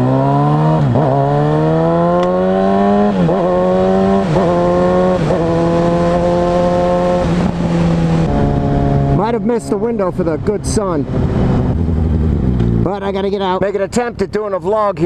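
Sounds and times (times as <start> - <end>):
motorcycle engine accelerating: 0.0 - 14.4.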